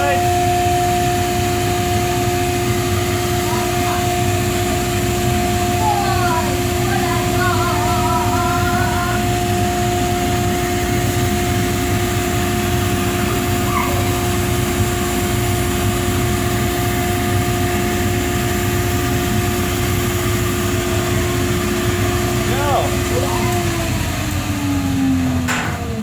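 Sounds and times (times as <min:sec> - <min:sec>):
two-note motor hum: 0:00.0 - 0:26.0.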